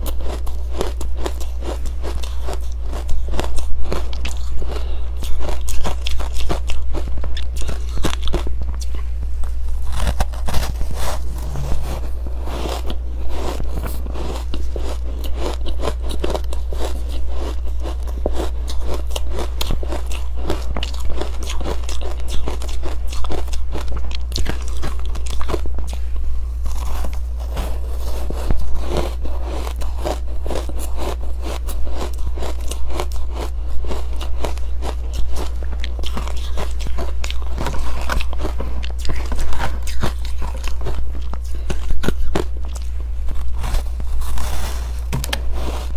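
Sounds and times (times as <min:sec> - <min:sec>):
crunchy ice chewing: 0:00.0 - 0:45.9.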